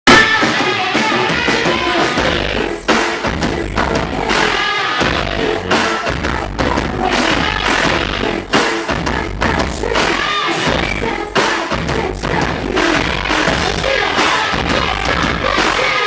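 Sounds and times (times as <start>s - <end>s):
heavy bass-driven beat: 0.1s - 16.0s
noise-pop band playing live: 0.1s - 16.0s.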